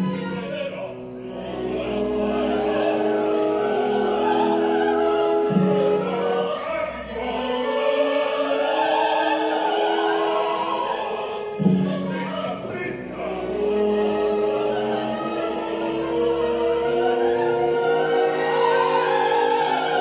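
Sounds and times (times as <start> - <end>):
opera singing: 0.0 - 20.0
orchestra playing: 0.0 - 20.0.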